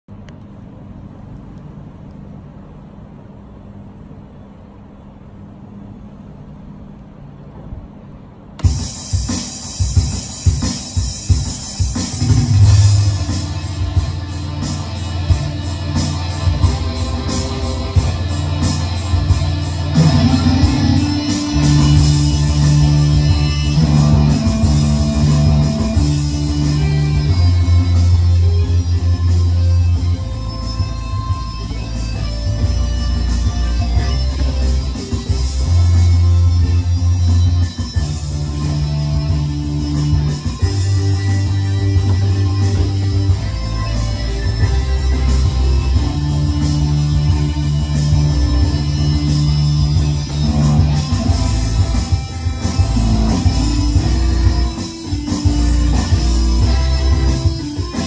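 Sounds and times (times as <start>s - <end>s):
keyboard with drum beat: 8.6s - 58.0s.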